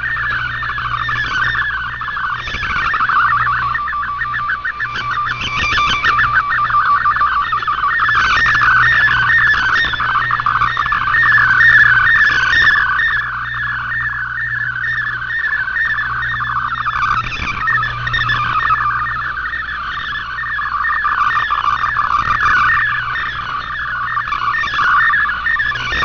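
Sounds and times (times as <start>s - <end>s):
steady low hum: 0.0s - 26.0s
warbling digital data tones: 0.0s - 26.0s.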